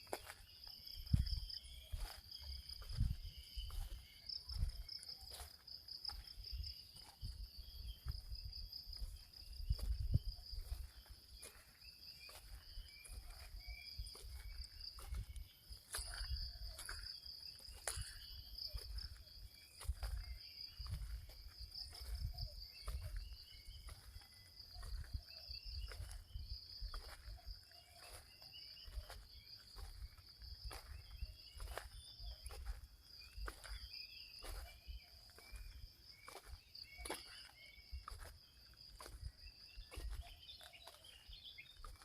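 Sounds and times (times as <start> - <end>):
insects trilling: 0.0 - 42.0
small birds chirping: 0.0 - 42.0.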